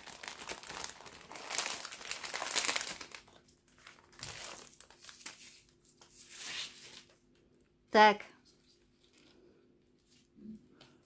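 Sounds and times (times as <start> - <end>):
plastic wrapping crinkling: 0.0 - 7.3, 8.5 - 10.3.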